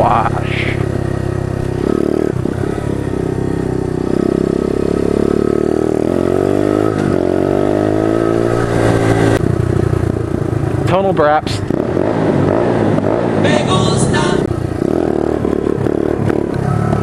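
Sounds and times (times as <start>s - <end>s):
pit bike engine revving: 0.0s - 17.0s.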